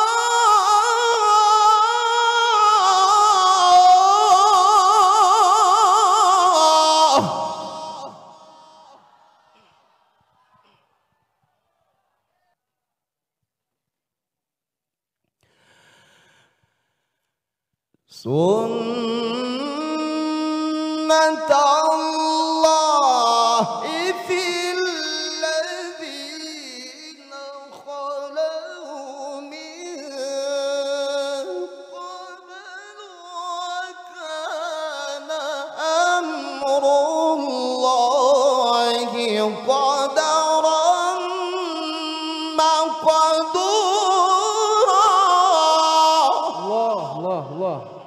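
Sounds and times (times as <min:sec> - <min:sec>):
man reciting melodically: 0:00.0 - 0:09.9, 0:18.0 - 0:48.0.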